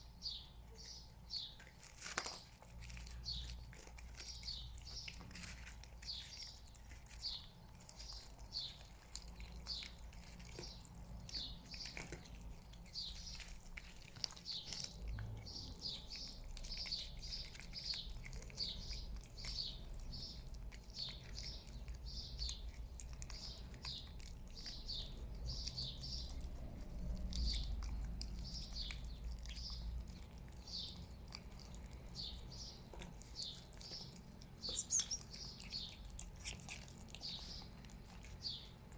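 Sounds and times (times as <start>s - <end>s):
small bird chirping: 0.0s - 38.9s.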